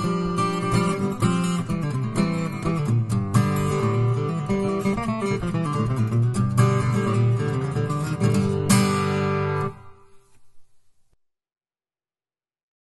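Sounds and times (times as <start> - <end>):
strummed acoustic guitar: 0.0 - 10.4.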